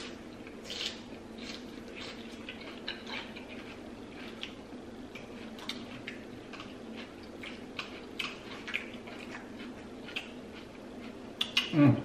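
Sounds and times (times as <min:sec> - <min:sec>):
chewing and lip smacking: 0:00.4 - 0:11.8.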